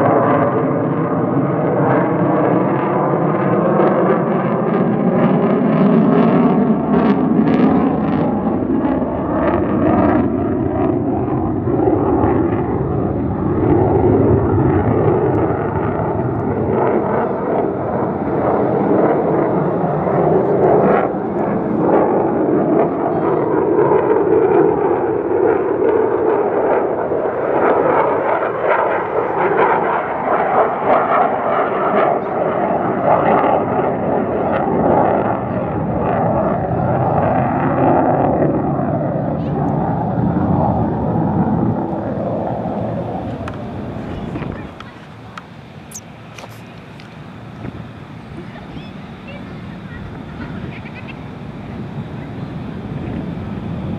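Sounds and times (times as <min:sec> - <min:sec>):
jet engine roar: 0:00.0 - 0:53.9.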